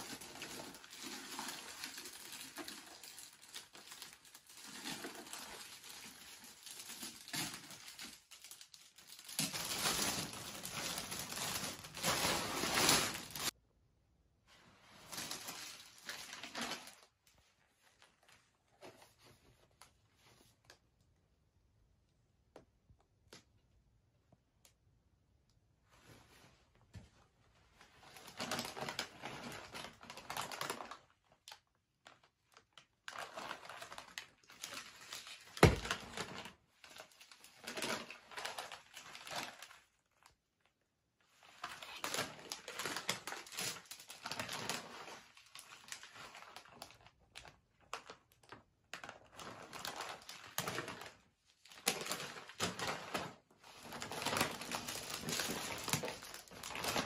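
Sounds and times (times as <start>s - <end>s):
packaging rustling and crinkling: 0.0s - 13.6s, 14.8s - 20.6s, 27.8s - 40.4s, 41.3s - 57.0s.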